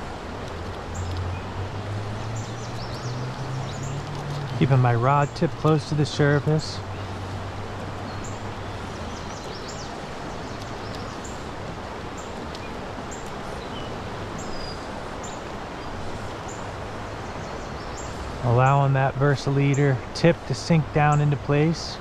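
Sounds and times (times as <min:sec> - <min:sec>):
creek flowing: 0:00.0 - 0:22.0.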